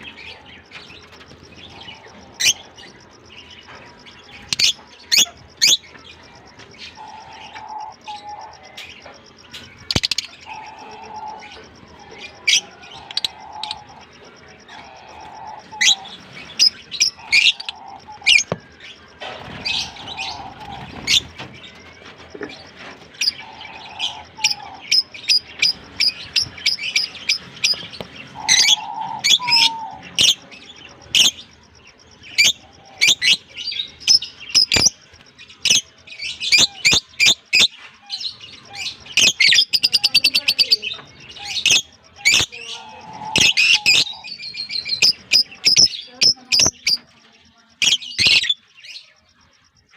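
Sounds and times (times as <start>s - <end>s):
lovebirds chirping: 0.0s - 49.9s.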